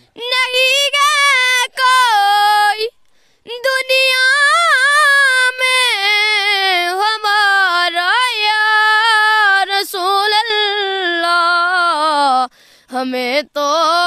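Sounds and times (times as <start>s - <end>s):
high voice singing devotional song: 0.0s - 14.0s.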